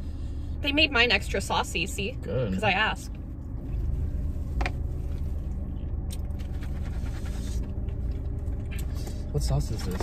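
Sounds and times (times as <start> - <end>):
low hum inside a car: 0.0 - 10.0.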